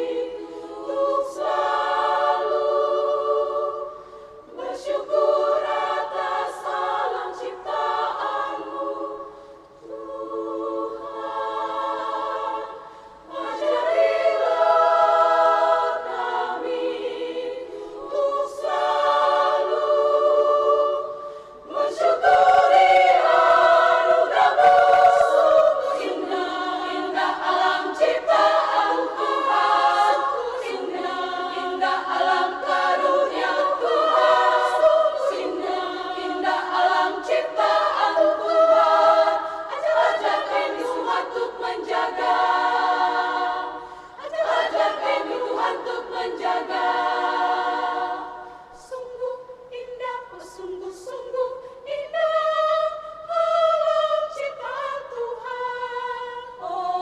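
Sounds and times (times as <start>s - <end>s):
women's choir singing a cappella: 0.0s - 57.0s.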